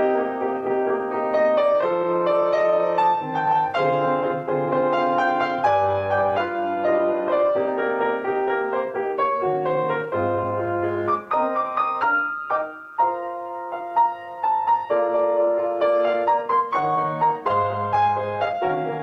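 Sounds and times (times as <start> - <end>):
background piano music: 0.0 - 19.0.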